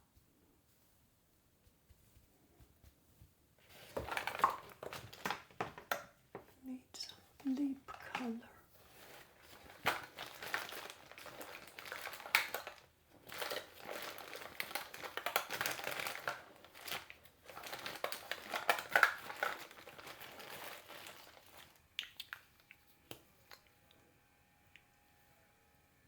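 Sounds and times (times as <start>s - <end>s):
crinkling and rustling: 0.0s - 24.0s.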